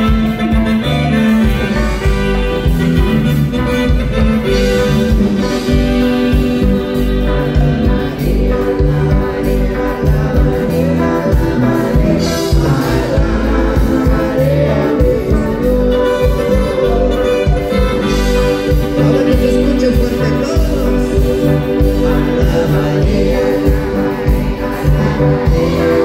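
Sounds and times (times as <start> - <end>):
bass: 0.0 - 26.0
drums: 0.0 - 26.0
keyboards: 0.0 - 26.0
person singing: 0.0 - 26.0.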